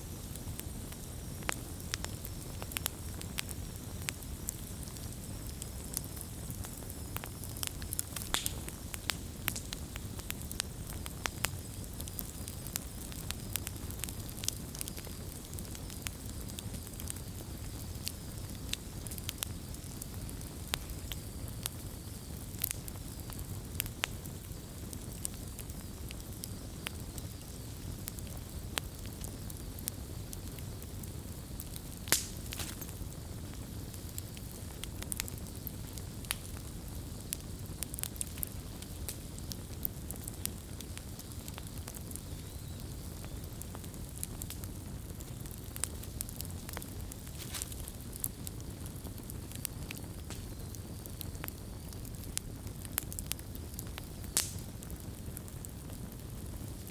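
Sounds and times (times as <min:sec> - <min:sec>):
campfire burning: 0:00.0 - 0:56.9
wood crackles and pops: 0:00.0 - 0:56.9.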